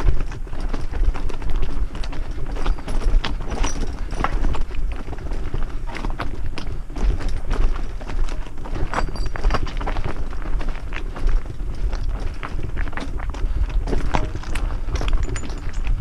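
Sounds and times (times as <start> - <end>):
bike clattering over stones: 0.0 - 16.0
bike rumbling on rocky trail: 0.0 - 16.0.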